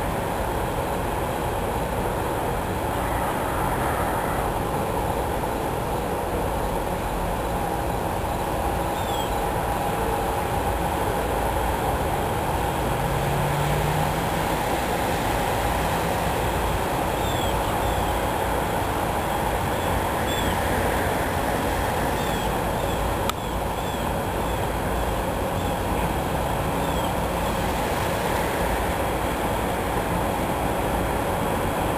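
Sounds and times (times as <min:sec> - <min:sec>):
steady rushing noise: 0:00.0 - 0:31.9.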